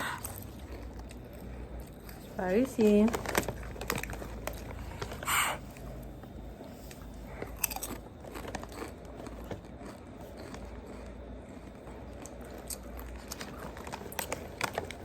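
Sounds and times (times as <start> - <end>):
potato chips crunching: 0.0 - 6.3, 6.9 - 15.0.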